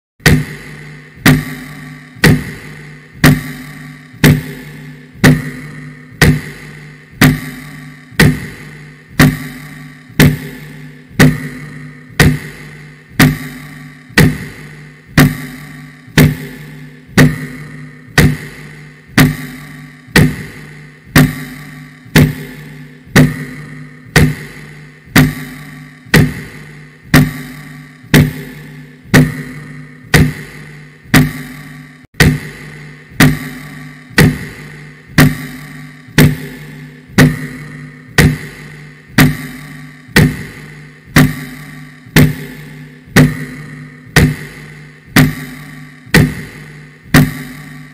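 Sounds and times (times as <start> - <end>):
heavy clock ticking: 0.2 - 47.9.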